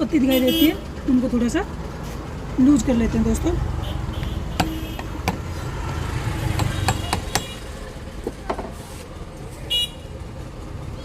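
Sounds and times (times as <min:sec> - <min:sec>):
low steady rumble: 0:00.0 - 0:09.5.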